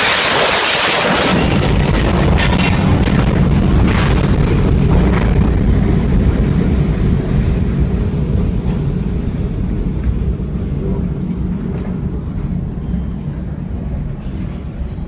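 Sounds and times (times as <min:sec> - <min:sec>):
loud low rumble: 0:01.0 - 0:15.0.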